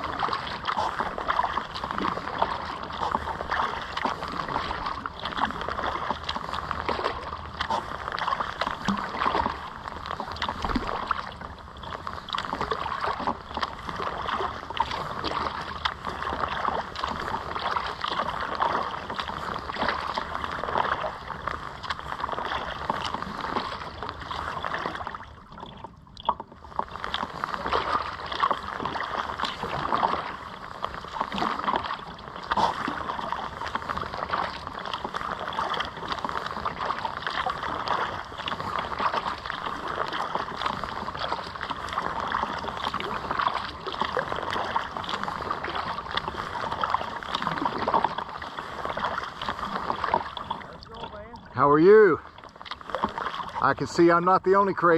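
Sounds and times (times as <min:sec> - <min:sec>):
water splashing against kayak hull: 0:00.0 - 0:54.9.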